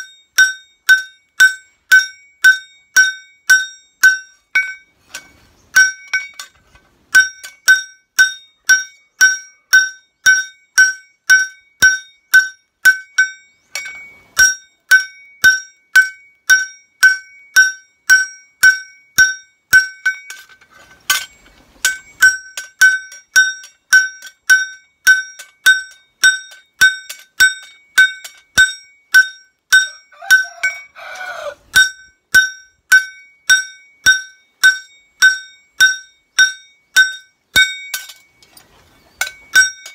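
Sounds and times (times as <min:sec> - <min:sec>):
hammer ringing on metal anvil: 0:00.0 - 0:38.4, 0:39.2 - 0:39.9.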